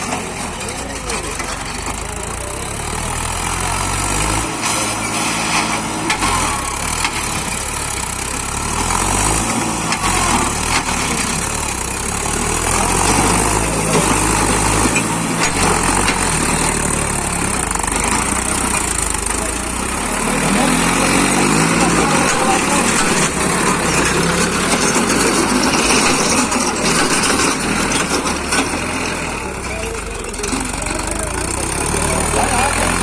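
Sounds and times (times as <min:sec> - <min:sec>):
tractor engine humming: 0:00.0 - 0:33.0.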